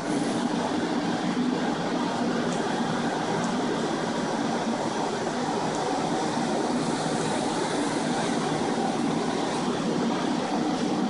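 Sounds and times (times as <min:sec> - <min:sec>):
blower fan rushing air: 0:00.0 - 0:11.0.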